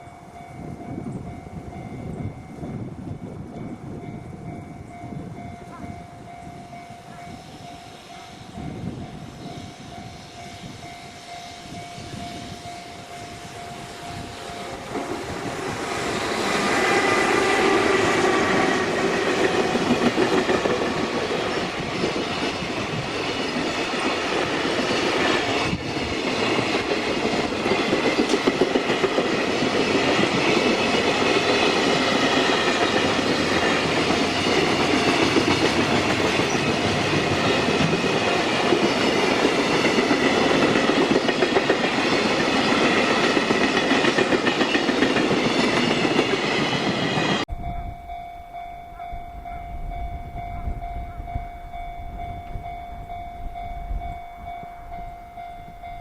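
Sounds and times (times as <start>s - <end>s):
freight train passing: 0.0s - 56.0s
wheels rushing on rails: 0.0s - 56.0s.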